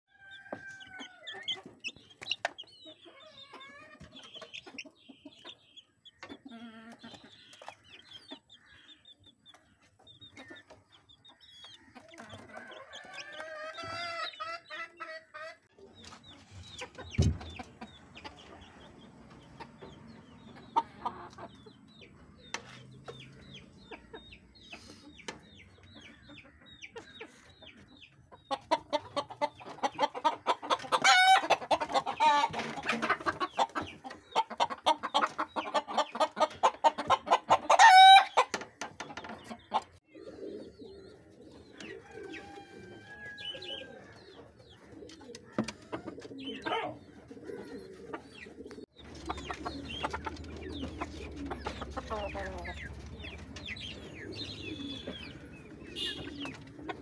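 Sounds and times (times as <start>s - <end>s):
adult chickens clucking: 0.1s - 57.0s
chicks clucking and peeping: 0.1s - 57.0s.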